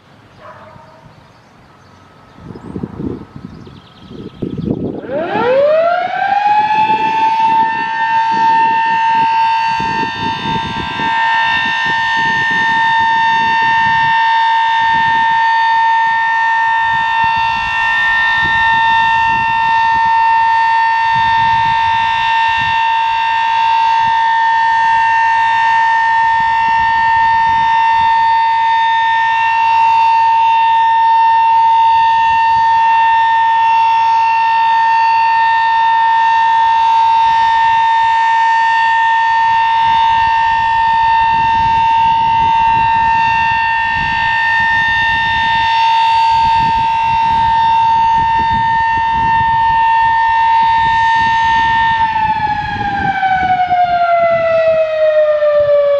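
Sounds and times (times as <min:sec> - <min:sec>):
warning siren winding up: 0:04.6 - 0:55.9.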